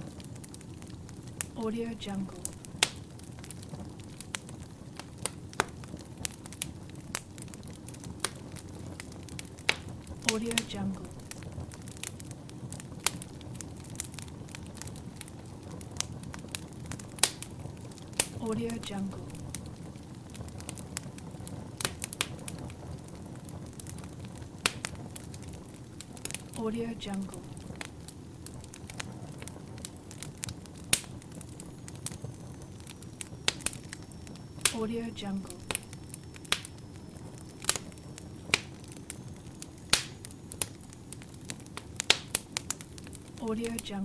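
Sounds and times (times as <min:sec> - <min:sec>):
fire popping and snapping: 0:00.0 - 0:44.0
low rumble of flames: 0:00.0 - 0:44.0.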